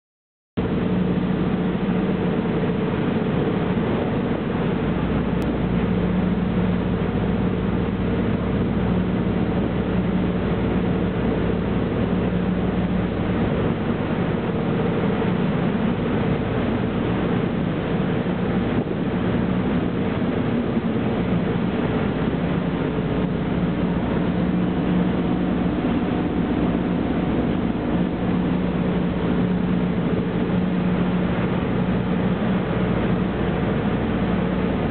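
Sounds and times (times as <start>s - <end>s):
boat engines droning: 0.6s - 34.9s
wake water rushing: 0.6s - 34.9s.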